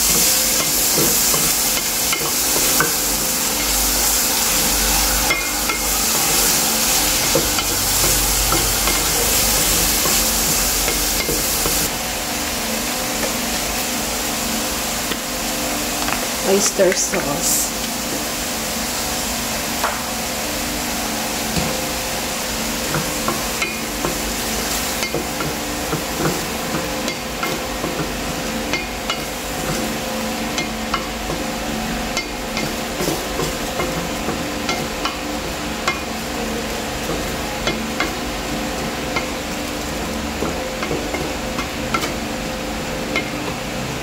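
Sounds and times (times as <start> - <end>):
mushrooms sizzling in a pan: 0.0 - 44.0.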